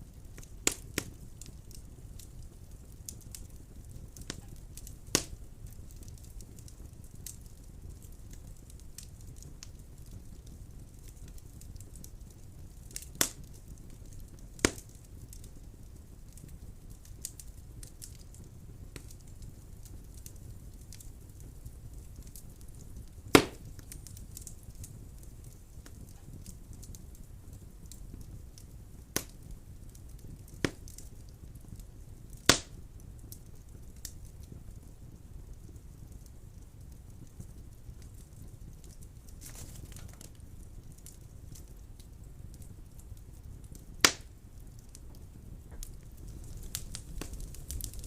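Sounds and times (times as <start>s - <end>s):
fire crackling: 0.0s - 48.0s
wood fire rumbling: 0.0s - 48.0s
sharp fire pops: 0.1s - 48.0s.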